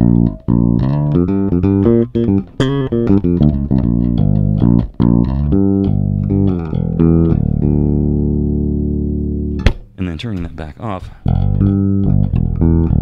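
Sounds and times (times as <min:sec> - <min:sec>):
electric bass plucked notes: 0:00.0 - 0:13.0.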